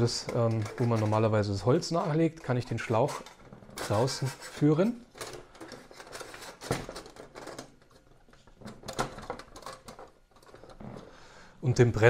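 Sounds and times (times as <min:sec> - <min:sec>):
metal clicks and scrapes: 0:00.0 - 0:11.1.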